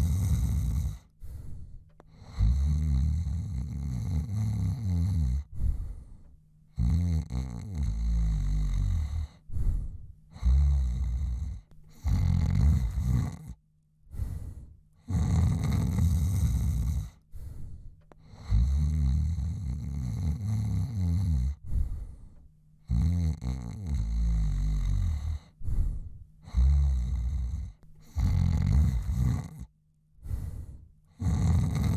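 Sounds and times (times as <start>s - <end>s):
man snoring: 0.0s - 1.3s, 2.1s - 6.0s, 6.7s - 17.2s, 18.2s - 22.2s, 22.8s - 31.9s
quiet breaths: 0.0s - 31.9s.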